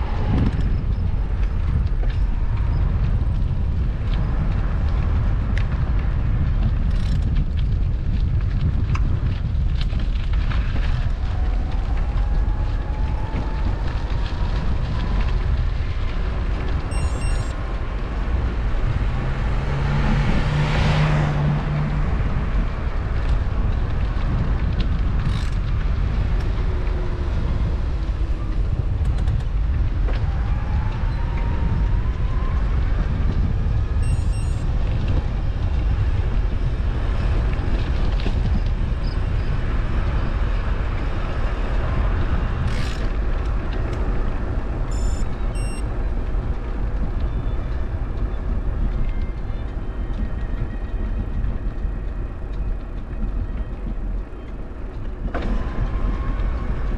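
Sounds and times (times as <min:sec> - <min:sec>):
road rumble and wind noise: 0:00.0 - 0:56.9
vehicle passing with low hum: 0:00.0 - 0:56.9.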